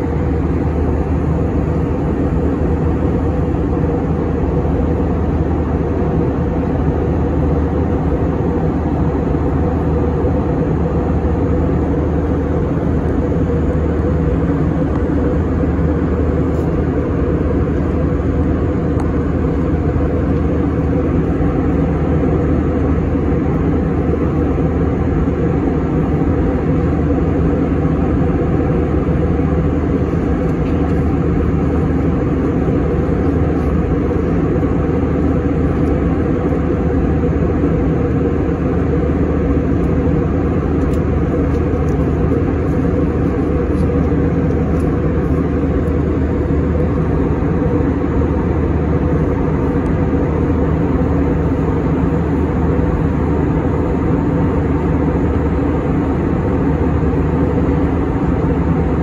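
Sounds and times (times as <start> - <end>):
airplane cabin drone: 0.0 - 59.0
faint hum: 0.0 - 59.0.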